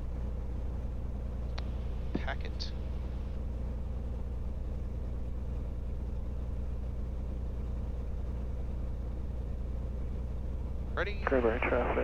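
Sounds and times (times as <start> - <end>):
aircraft engine idling: 0.0 - 12.0.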